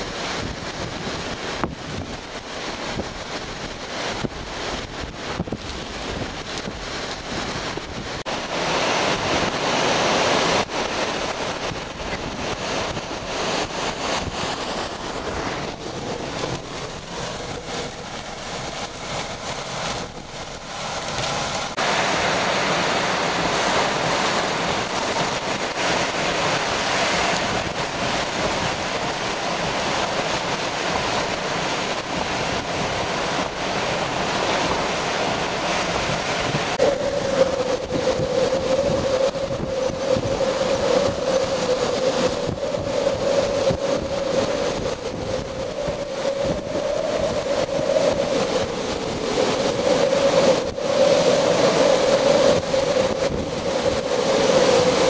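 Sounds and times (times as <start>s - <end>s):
heavy rain: 0.0s - 55.0s
hurricane-force wind: 0.0s - 55.0s
wind gusts buffeting microphone: 0.0s - 55.0s.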